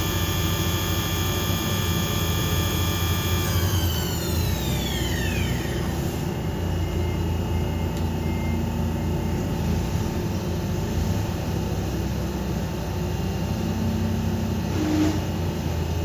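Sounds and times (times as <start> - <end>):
machine spindle whine: 0.0 - 13.9
low machine hum: 0.0 - 16.0.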